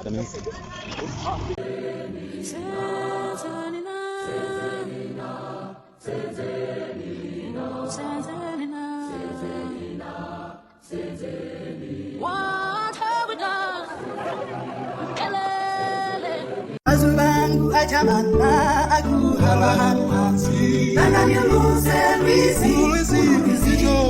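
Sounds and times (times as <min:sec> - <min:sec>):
group of voices chanting: 0:01.6 - 0:08.5, 0:09.1 - 0:24.0.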